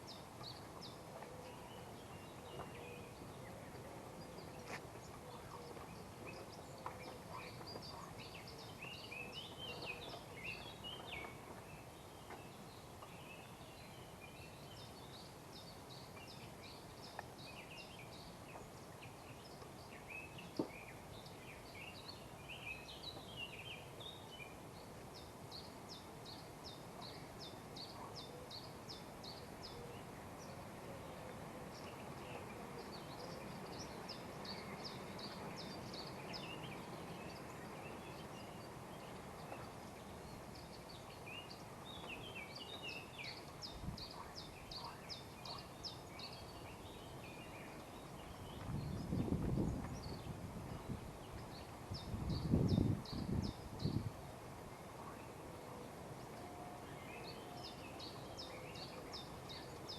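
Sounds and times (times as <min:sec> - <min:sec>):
faint background hiss: 0:00.0 - 0:59.9.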